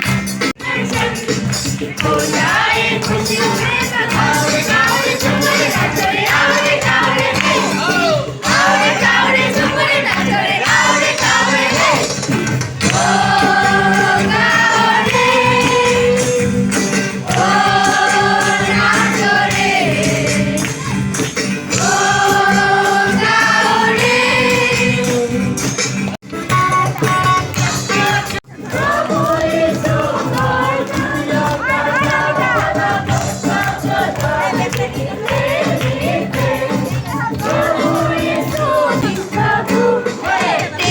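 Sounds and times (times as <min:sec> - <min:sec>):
instrumental accompaniment: 0:00.0 - 0:40.9
group singing a carol: 0:00.6 - 0:20.9, 0:21.7 - 0:25.6, 0:27.9 - 0:40.9.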